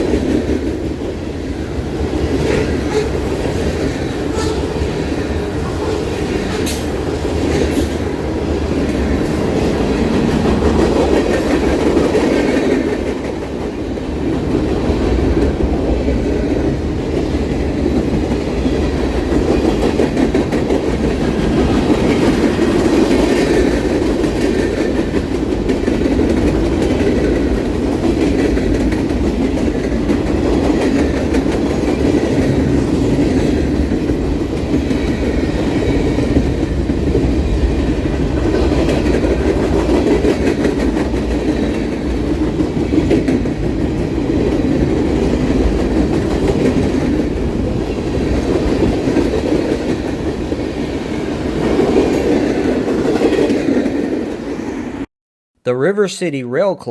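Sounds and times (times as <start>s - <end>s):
freight train wheels rumbling: 0.0s - 55.1s.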